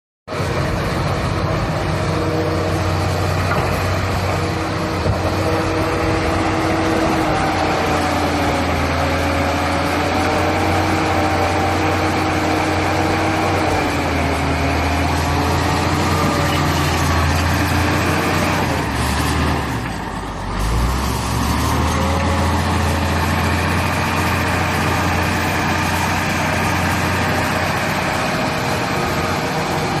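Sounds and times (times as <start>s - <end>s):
bulldozer diesel engine running: 0.3s - 30.0s.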